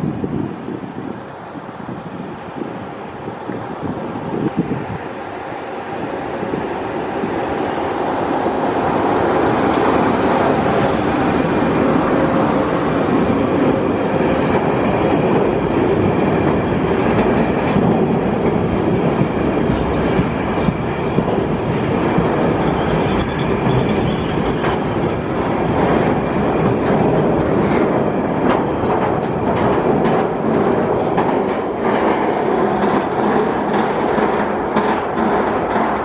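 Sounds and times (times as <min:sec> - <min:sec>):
train running: 0:00.0 - 0:36.0
wheels clicking on rails: 0:06.4 - 0:36.0.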